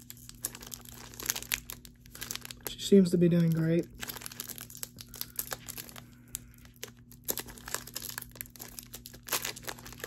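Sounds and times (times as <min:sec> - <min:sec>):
wrapper tearing and crinkling: 0:00.0 - 0:10.0.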